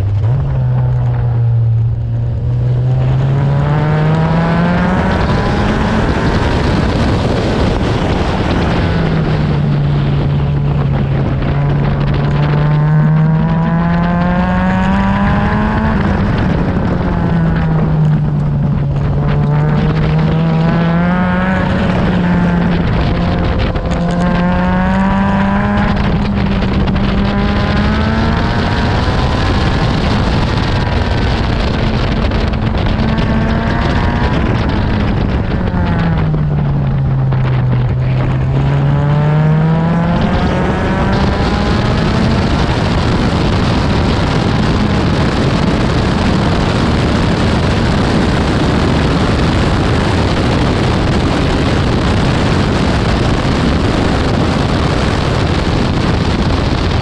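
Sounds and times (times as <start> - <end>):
racing car engine revving: 0.0 - 57.0
wind rush: 0.0 - 57.0.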